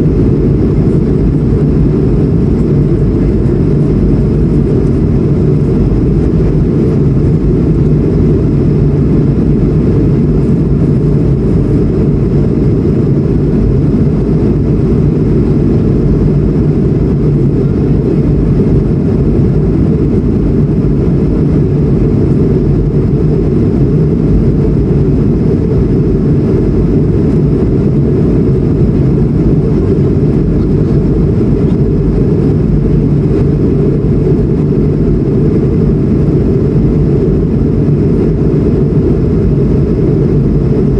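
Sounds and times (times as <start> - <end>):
jet engines and rushing air in cabin: 0.0 - 40.9.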